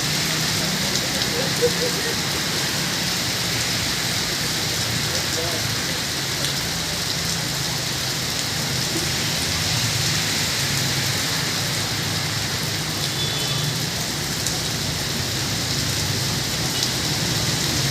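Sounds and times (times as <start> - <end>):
heavy rain falling: 0.0 - 17.9.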